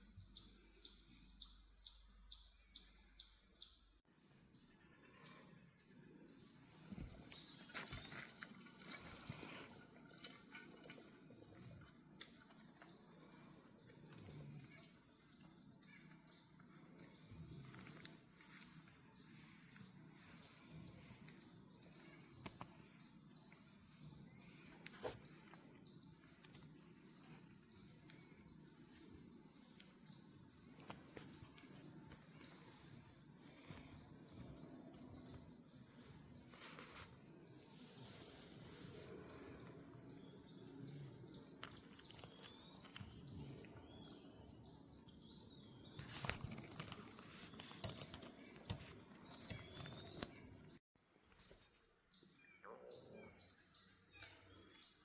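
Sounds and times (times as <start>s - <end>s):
high-pitched insect chorus: 0.0s - 50.8s.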